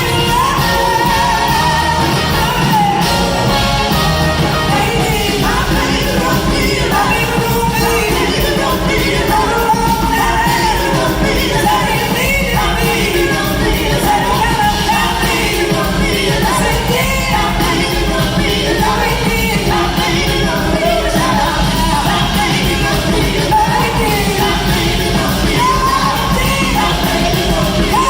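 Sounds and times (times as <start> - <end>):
live rock band playing: 0.0 - 28.0
person singing: 0.0 - 28.0.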